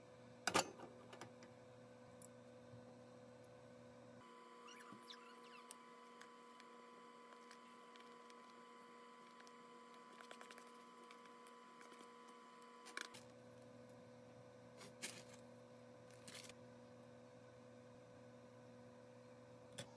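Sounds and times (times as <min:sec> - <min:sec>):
steady electrical hum: 0:00.0 - 0:19.9.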